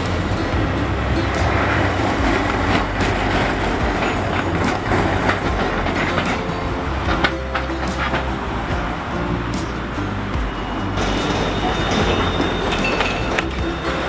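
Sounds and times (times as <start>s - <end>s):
street traffic: 0.0s - 14.0s
tram low hum: 0.0s - 14.0s
tram wheels clicking over rail joints: 0.0s - 14.0s.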